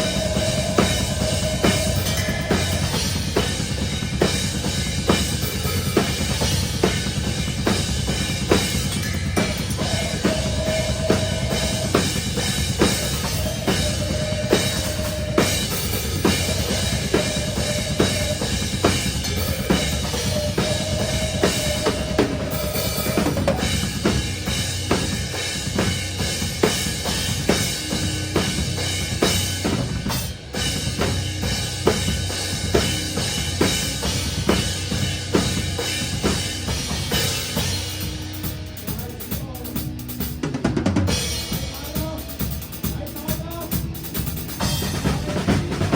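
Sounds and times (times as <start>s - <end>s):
distorted band music: 0.0s - 45.9s
drum kit playing: 0.0s - 45.9s.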